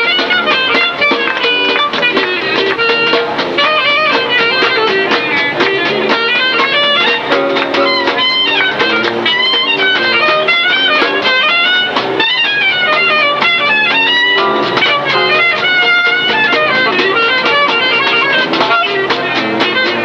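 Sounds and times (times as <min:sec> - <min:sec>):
marching band music: 0:00.0 - 0:20.0.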